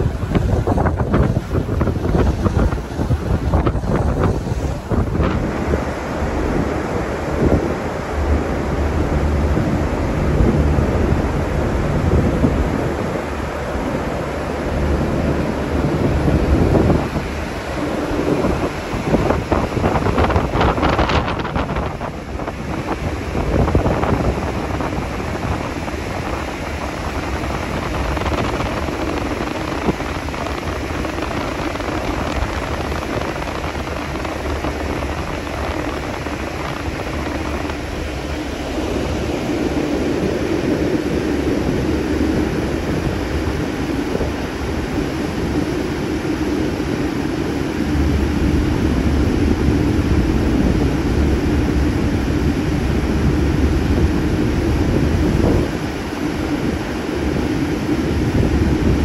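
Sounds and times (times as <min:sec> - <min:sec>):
ship engine drone: 0:00.0 - 0:59.0
water rushing along hull: 0:00.0 - 0:59.0
wind buffeting microphone: 0:00.0 - 0:59.0.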